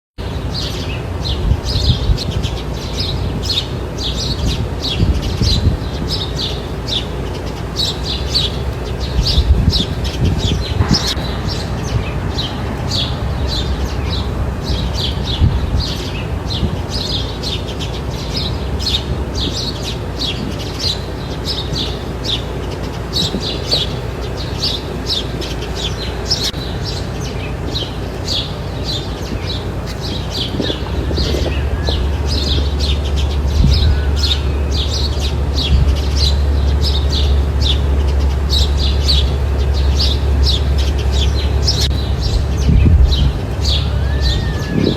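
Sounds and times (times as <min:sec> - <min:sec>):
small birds chirping: 0:00.2 - 0:44.9
steady low rumble: 0:00.2 - 0:44.9.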